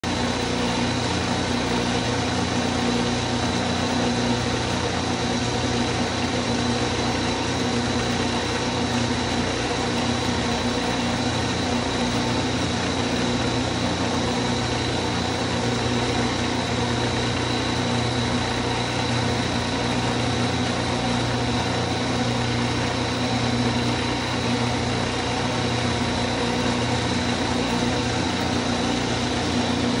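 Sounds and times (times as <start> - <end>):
drill press motor hum: 0.1 - 30.0.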